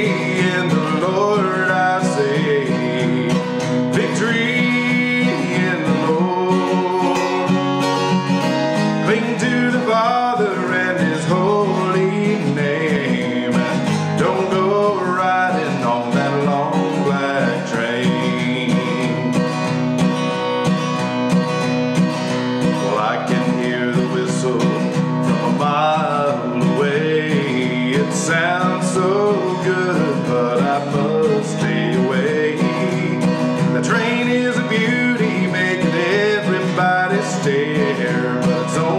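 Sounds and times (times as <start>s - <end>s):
acoustic guitar strumming: 0.0s - 38.9s
man singing country song: 0.0s - 38.9s.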